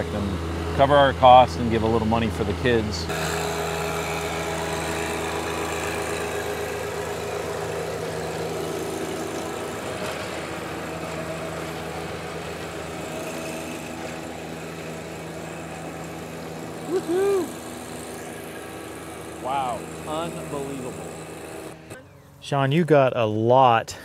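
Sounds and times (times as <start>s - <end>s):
tractor diesel engine running: 0.0s - 23.4s
rotary tiller churning soil: 0.1s - 22.9s.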